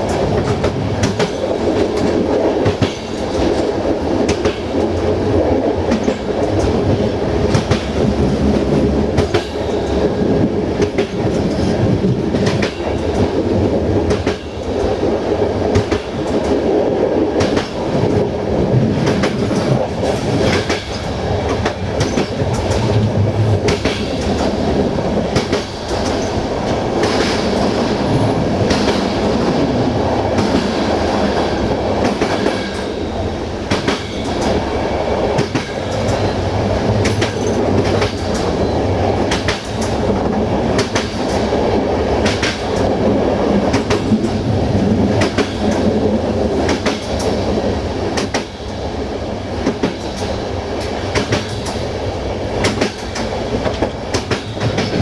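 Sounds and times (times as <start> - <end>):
wheels clacking over rail joints: 0.0 - 48.8, 49.6 - 55.0
train wheels rumbling: 0.0 - 55.0.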